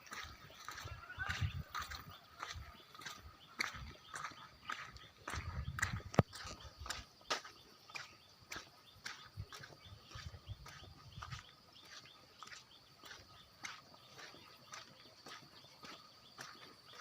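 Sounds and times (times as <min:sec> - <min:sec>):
footsteps on stony ground: 0:00.0 - 0:17.0.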